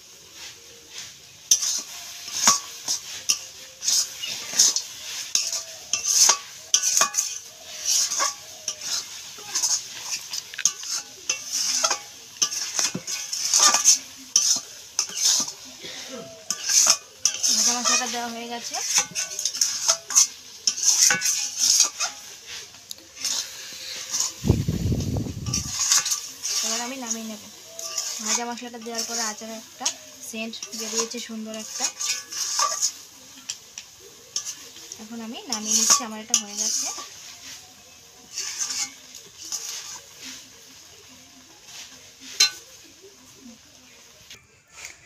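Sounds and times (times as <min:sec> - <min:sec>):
metal spatula scraping wok: 0:00.0 - 0:45.0.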